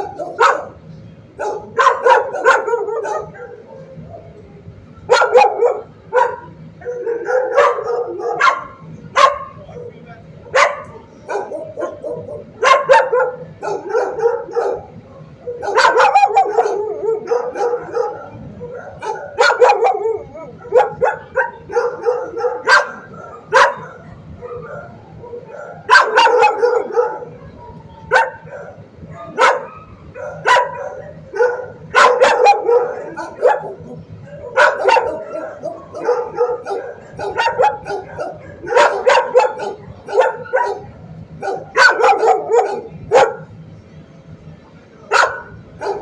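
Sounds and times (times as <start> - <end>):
dogs yipping: 0.0 - 0.8, 1.4 - 9.9, 10.5 - 43.5, 45.1 - 46.0
dogs barking: 0.0 - 43.6, 45.1 - 46.0.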